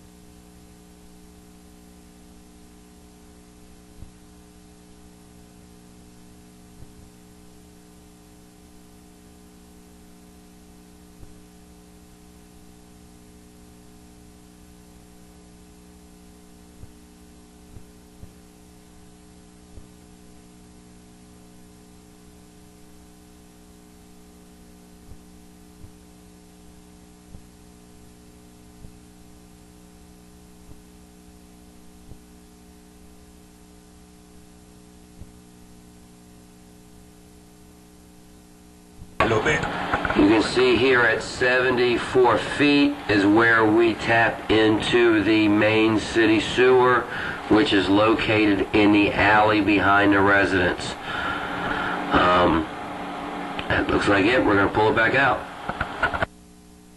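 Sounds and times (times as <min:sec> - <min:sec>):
electrical mains hum: 0:00.0 - 0:56.9.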